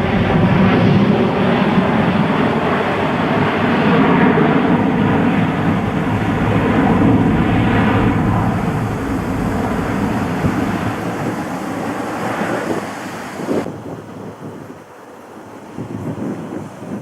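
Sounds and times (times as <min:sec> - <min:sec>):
jet airliner passing: 0:00.0 - 0:16.9.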